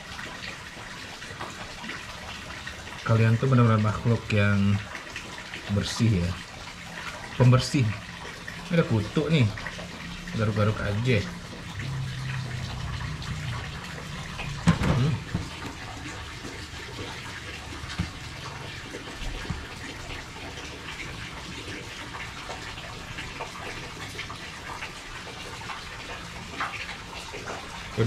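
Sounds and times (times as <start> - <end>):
tap water running into sink: 0.0 - 28.0.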